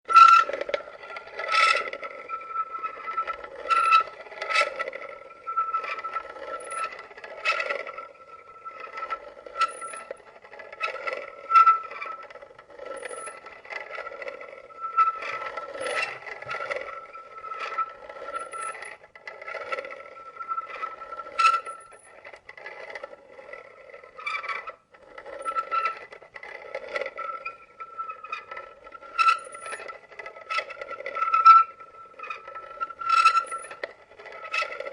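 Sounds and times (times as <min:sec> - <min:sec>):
coffee mill grinding beans: 0:00.1 - 0:34.9.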